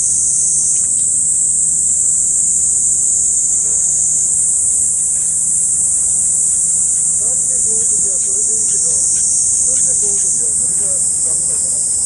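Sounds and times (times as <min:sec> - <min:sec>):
faint low hum: 0:00.0 - 0:12.0
insects chorus: 0:00.0 - 0:12.0.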